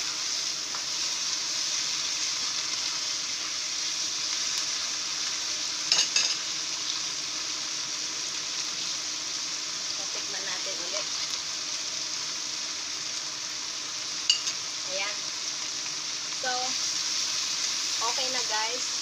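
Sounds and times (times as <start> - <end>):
beef and onions sizzling: 0.0 - 19.0.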